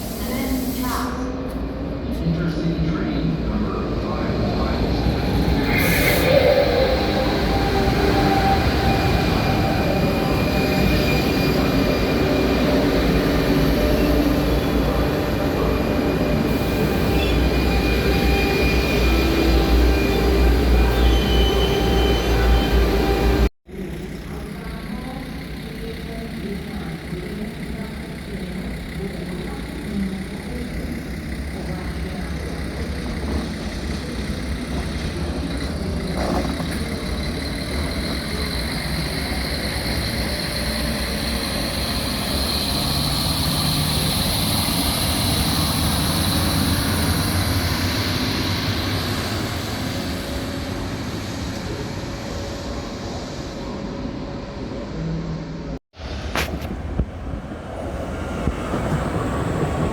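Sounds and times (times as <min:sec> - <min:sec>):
rail vehicle rumble: 0:00.0 - 0:59.9.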